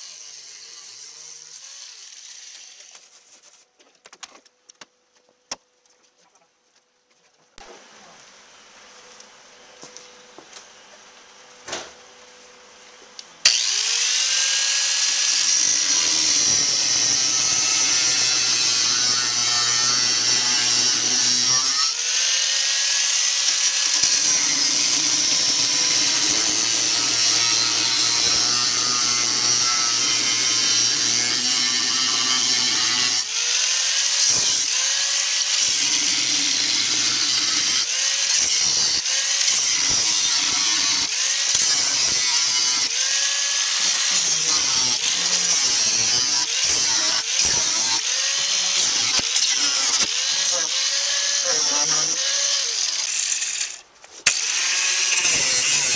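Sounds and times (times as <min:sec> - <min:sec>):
angle grinder on sheet metal: 0:00.0 - 0:03.0, 0:13.4 - 0:55.9.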